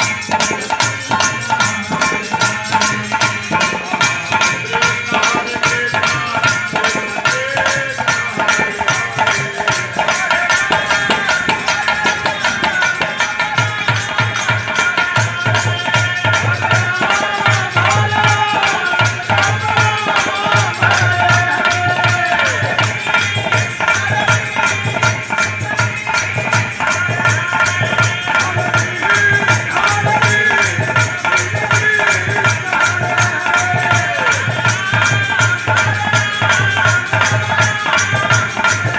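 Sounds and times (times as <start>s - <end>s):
fast rattling percussion: 0.0s - 38.9s.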